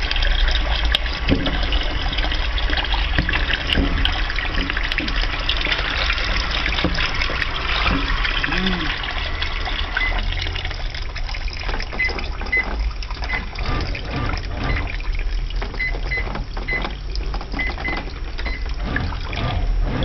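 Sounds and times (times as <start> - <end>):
washing machine low hum: 0.0 - 20.0
water pouring into washing machine: 0.0 - 20.0.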